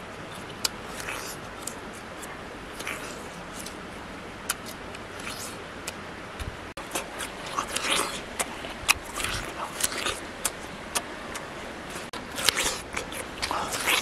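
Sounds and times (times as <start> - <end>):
man chewing crisp food: 0.0 - 14.0.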